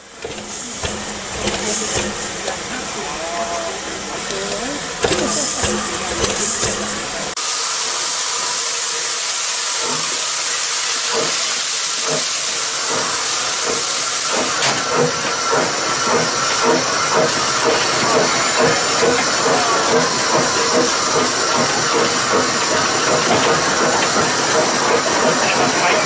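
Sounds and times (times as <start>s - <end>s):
steam hissing: 0.0s - 26.0s
steam locomotive exhaust beats: 0.0s - 26.0s.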